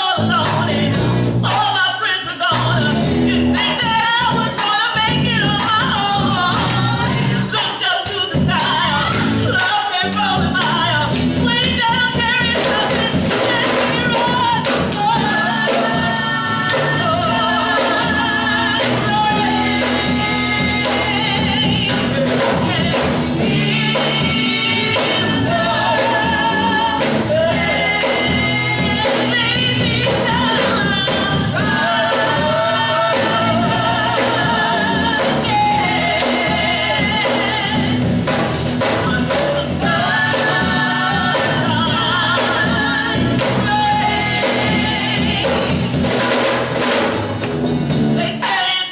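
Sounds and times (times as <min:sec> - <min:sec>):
band playing: 0:00.0 - 0:48.9
choir singing gospel in harmony: 0:00.0 - 0:48.9.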